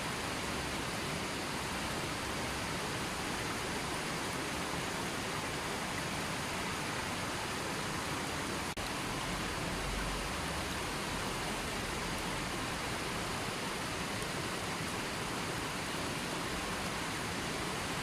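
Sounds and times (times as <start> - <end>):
river water flowing: 0.0 - 18.0.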